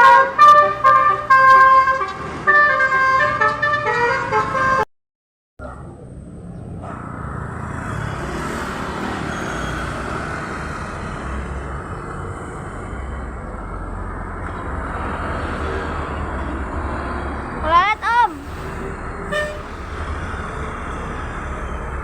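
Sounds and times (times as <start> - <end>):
vehicles passing: 0.0 - 4.9, 5.6 - 22.0.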